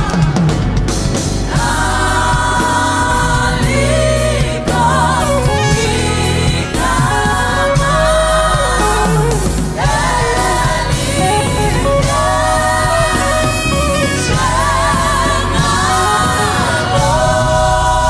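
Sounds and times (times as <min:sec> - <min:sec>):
gospel choir singing: 0:00.0 - 0:18.0
instrumental backing: 0:00.0 - 0:18.0.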